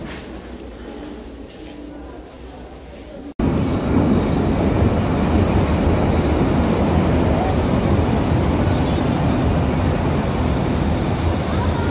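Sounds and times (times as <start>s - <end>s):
train rumbling at platform: 0.0s - 11.9s.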